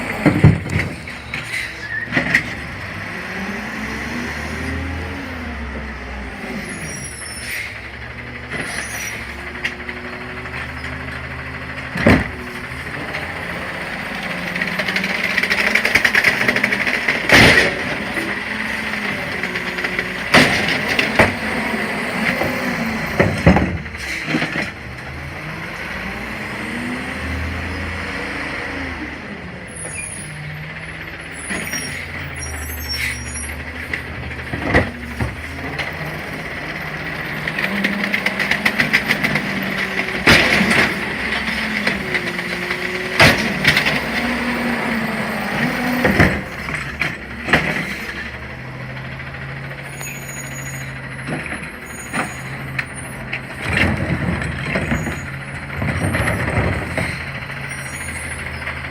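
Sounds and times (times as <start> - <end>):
hydraulics whining: 0.0 - 58.9
truck engine running: 0.0 - 58.9.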